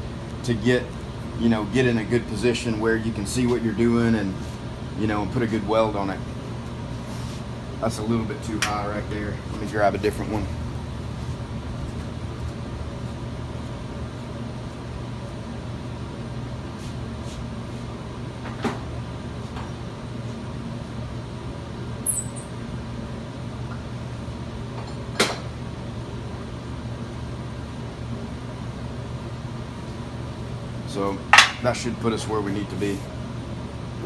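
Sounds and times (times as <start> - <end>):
shop machinery hum: 0.0 - 34.0.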